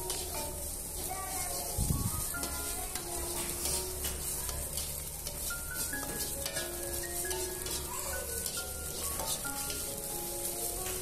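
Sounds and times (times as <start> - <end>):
eggs sizzling in butter: 0.0 - 11.0
metal spatula scraping wok: 0.0 - 11.0
soft background melody: 0.0 - 11.0.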